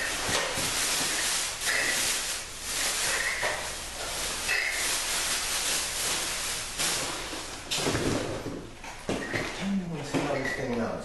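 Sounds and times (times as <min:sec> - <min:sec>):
plastic and cardboard rustling: 0:00.0 - 0:10.9.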